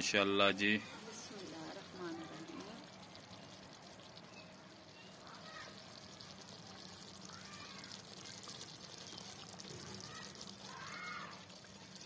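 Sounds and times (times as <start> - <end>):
curry simmering in a pot: 0.0 - 12.0.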